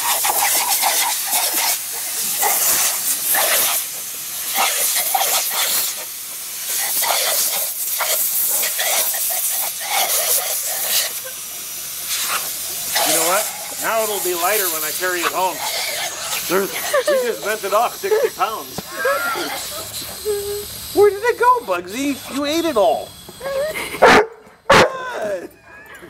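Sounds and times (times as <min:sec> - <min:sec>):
compressed air hissing: 0:00.0 - 0:24.6.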